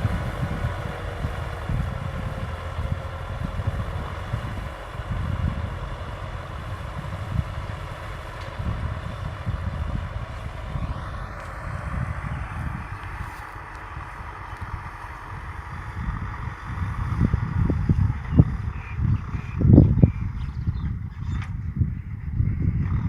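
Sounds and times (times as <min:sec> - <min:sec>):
tractor diesel engine running: 0:00.0 - 0:23.0
wind buffeting microphone: 0:00.0 - 0:23.0.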